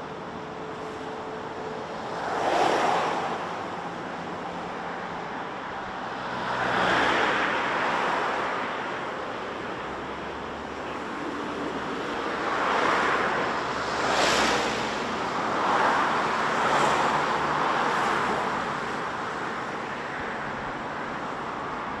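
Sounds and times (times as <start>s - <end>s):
vehicles passing on highway: 0.0s - 22.0s.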